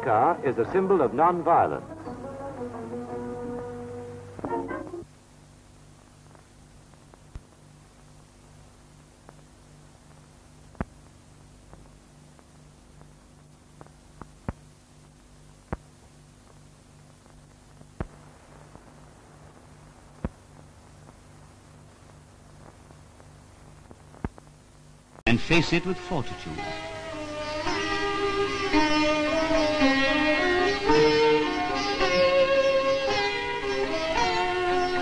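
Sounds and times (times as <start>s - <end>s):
film soundtrack hiss: 0.0s - 35.0s.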